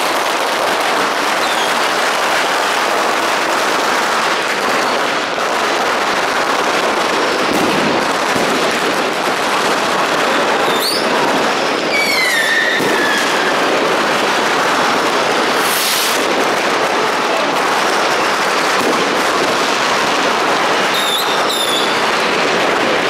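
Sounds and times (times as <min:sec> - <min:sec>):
firecrackers crackling: 0:00.0 - 0:23.0
whistling firework: 0:00.0 - 0:23.0.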